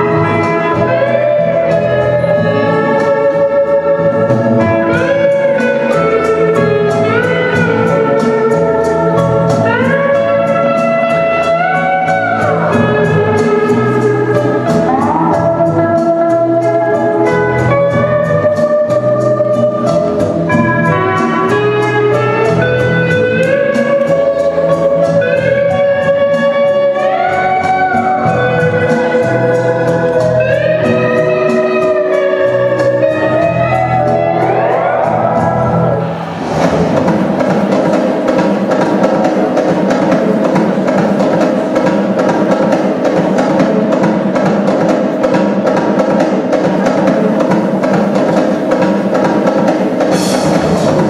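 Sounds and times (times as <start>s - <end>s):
plucked beat: 0.0s - 51.0s
sliding steel guitar: 0.0s - 51.0s.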